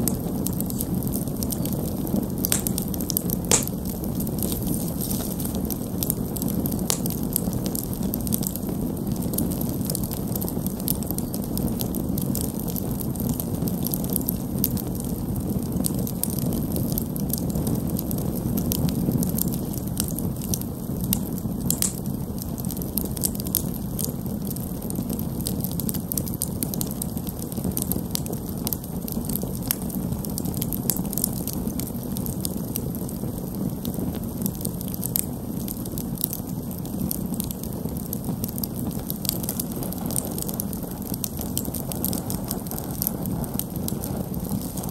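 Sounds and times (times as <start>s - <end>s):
burning wood crackling and popping: 0.0s - 44.9s
campfire flames rushing: 0.0s - 44.9s.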